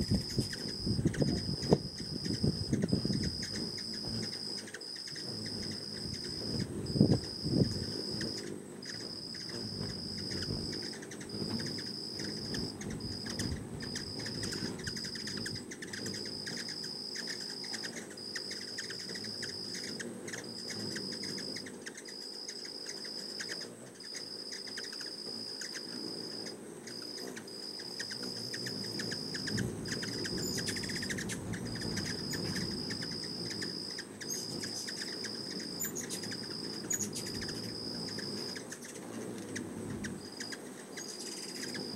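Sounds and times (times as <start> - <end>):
hummingbird chip notes: 0.0 - 41.9
hummingbird wings whirring: 0.0 - 41.9
insect trilling: 0.0 - 41.9.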